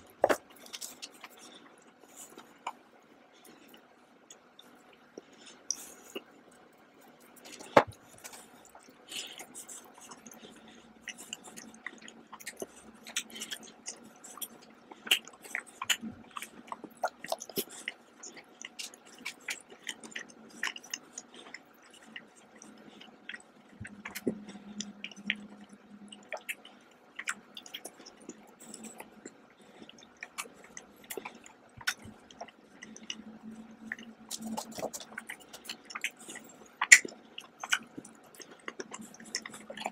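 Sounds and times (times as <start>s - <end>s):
sharp clicks of chewing: 0.0s - 2.8s, 3.4s - 39.9s.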